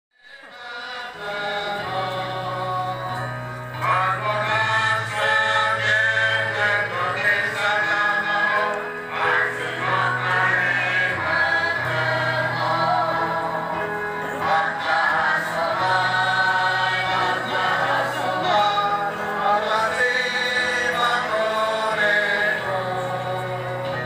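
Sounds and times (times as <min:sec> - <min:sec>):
choir singing a hymn: 0:00.3 - 0:24.0.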